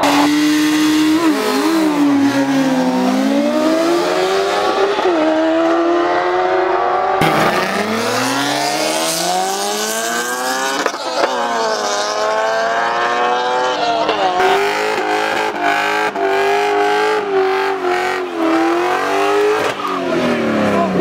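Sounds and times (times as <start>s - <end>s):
race engines accelerating: 0.0s - 21.0s.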